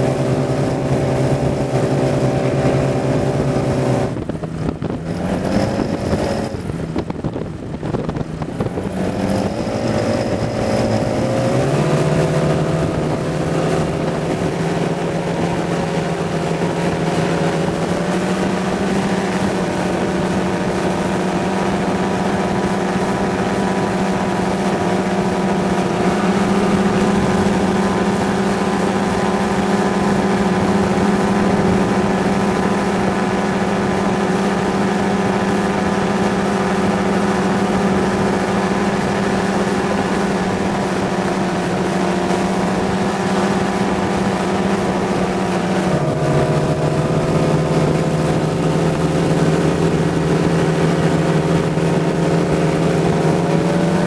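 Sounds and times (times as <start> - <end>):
engine and propeller droning: 0.0 - 54.0.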